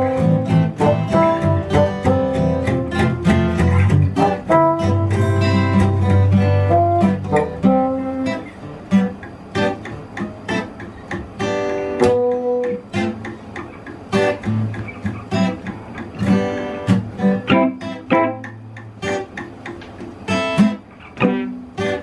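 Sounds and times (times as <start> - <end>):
guitar picking and strumming: 0.0 - 22.0.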